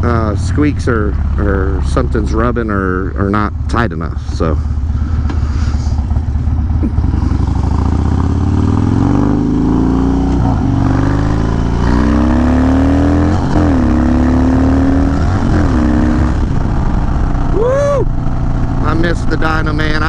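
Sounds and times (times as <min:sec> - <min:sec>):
motorcycle engine shifting gears: 0:00.0 - 0:20.0.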